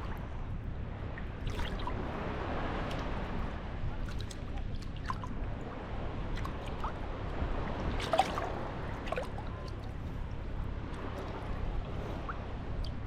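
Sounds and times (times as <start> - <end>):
small waves lapping at shore: 0.0 - 13.0.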